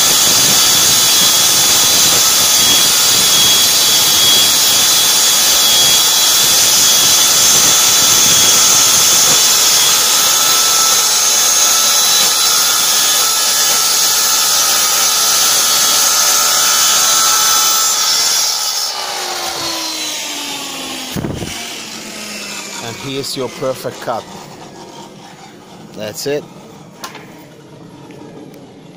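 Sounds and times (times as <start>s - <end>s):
circular saw cutting board: 0.0s - 28.9s.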